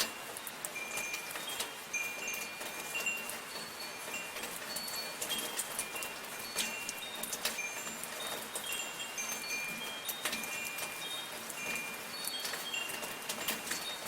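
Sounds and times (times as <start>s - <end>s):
sharp drip ticks: 0.0s - 14.0s
soft rain hiss: 0.0s - 14.0s
wind chimes ringing: 0.0s - 14.0s.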